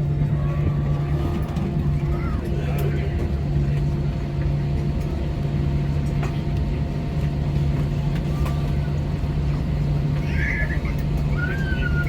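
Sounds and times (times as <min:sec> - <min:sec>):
jet engines droning in cabin: 0:00.0 - 0:12.0.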